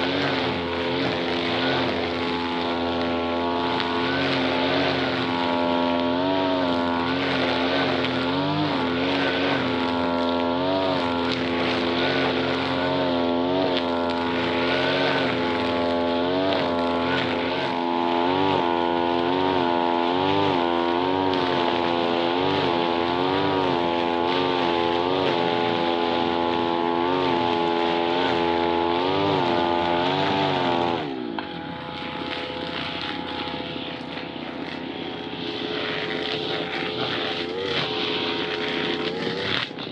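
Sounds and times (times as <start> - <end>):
brush-cutter engine revving: 0.0 - 39.9.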